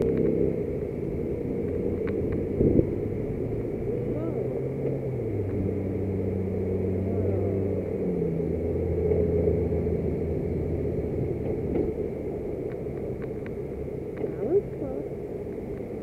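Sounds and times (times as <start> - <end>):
car engines humming: 0.0 - 16.0.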